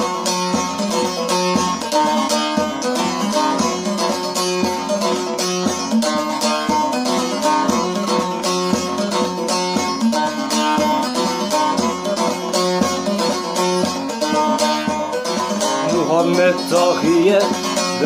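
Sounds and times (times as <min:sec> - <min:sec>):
long-necked lute strummed with plectrum: 0:00.0 - 0:18.0.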